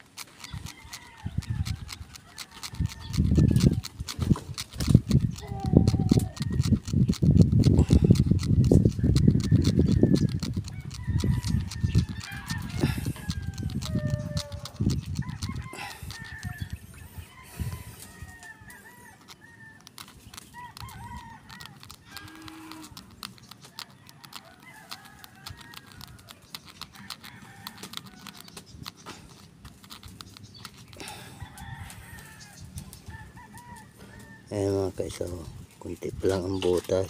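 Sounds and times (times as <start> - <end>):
chickens clucking: 0.0 - 37.0
needle scratching eggshell: 0.0 - 37.0.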